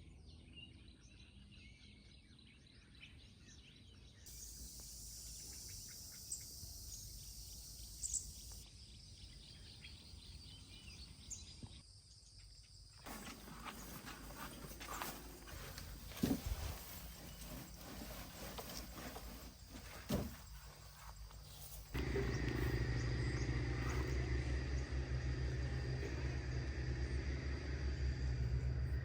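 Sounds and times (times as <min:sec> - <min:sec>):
insects buzzing: 0:04.3 - 0:29.0.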